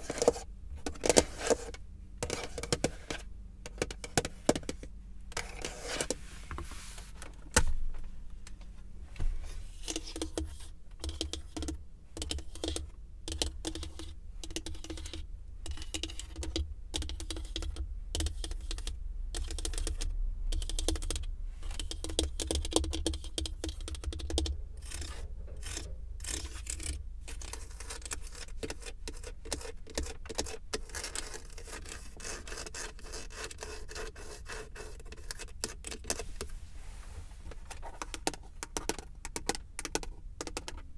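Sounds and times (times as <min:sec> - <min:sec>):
low steady rumble: 0:00.0 - 0:40.9.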